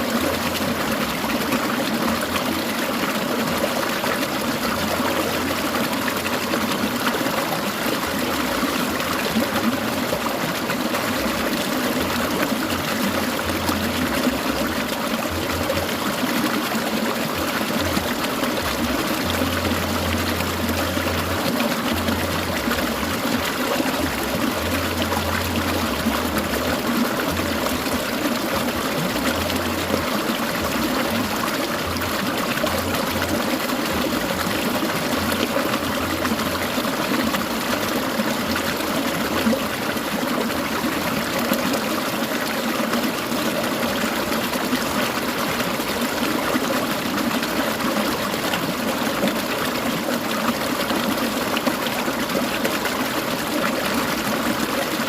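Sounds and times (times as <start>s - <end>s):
stream water splashing over stones: 0.0s - 55.0s.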